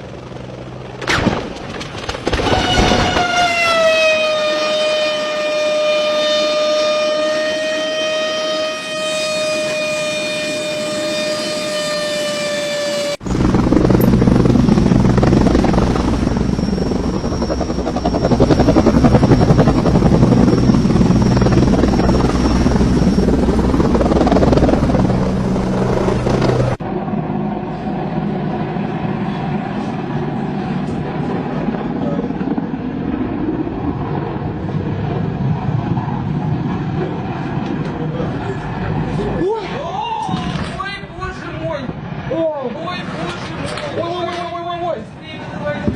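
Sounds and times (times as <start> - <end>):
helicopter rotor chopping: 0.0 - 39.8
turbine drone: 0.0 - 40.2.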